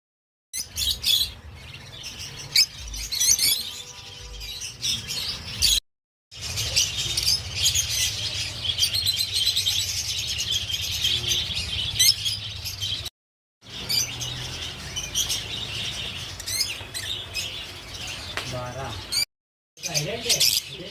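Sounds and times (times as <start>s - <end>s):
small birds chirping: 0.6s - 5.8s, 6.4s - 20.9s.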